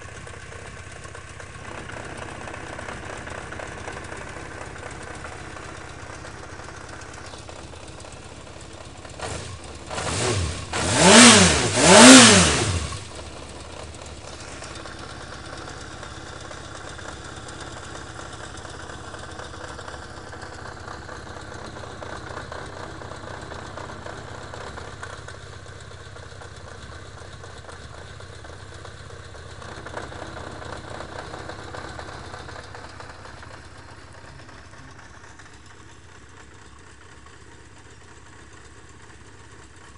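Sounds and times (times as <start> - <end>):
engine knocking: 0.0 - 39.9
motorcycle engine idling and revving: 0.0 - 39.9.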